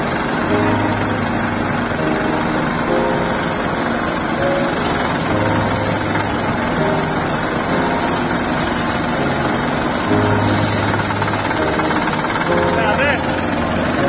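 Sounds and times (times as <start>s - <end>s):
small engine running steadily: 0.0s - 14.0s
threshing drum spinning: 0.0s - 14.0s.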